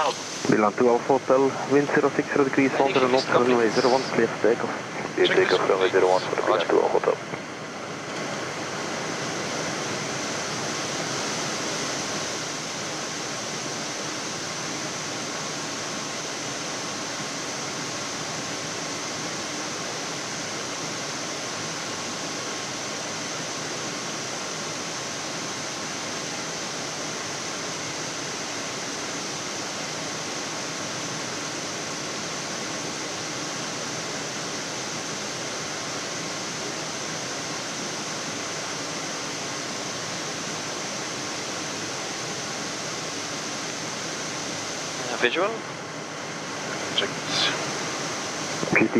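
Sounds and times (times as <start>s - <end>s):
cockpit airflow hiss: 0.0s - 48.9s.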